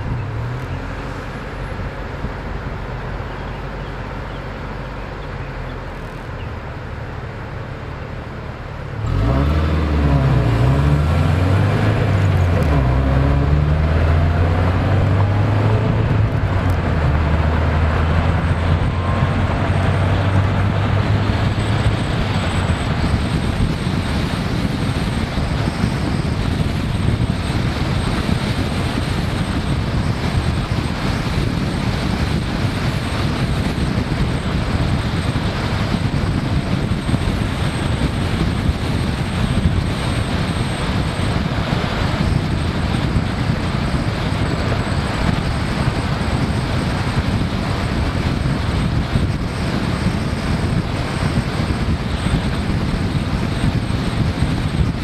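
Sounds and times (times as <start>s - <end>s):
wind rushing over microphone: 0.0s - 4.3s, 5.0s - 55.0s.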